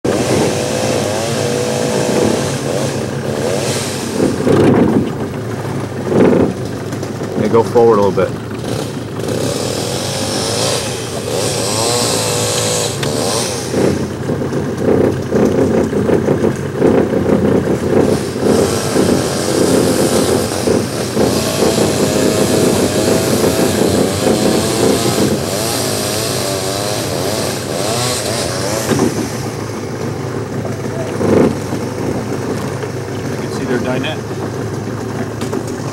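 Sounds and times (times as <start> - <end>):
motor engine running: 0.0 - 35.9.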